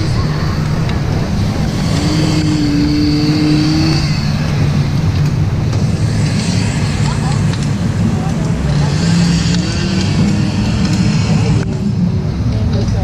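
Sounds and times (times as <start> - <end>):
constant low hum: 0.0 - 13.0
loud low rumble of rapids: 0.0 - 13.0.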